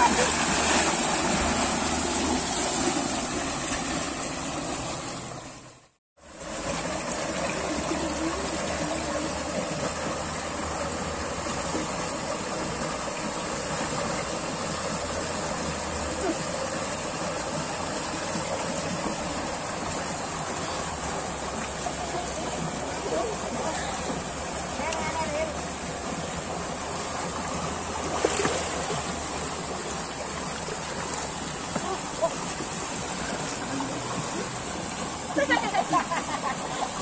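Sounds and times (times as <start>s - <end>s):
water rushing through channel: 0.0s - 37.0s.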